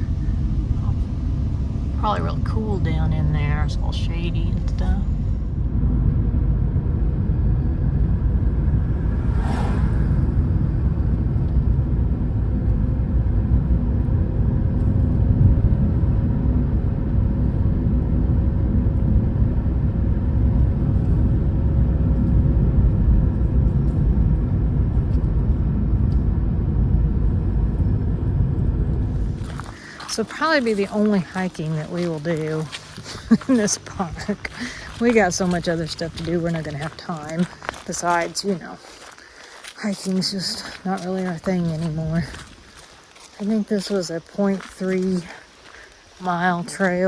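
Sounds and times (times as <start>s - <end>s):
vehicle driving slowly: 0.0s - 47.0s.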